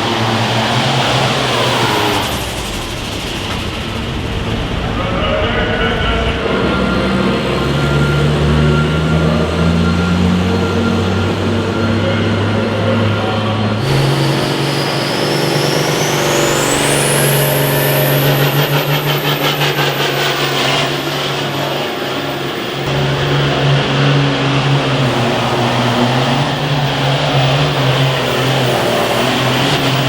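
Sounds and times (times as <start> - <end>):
vehicle engine running under load: 0.0 - 30.0.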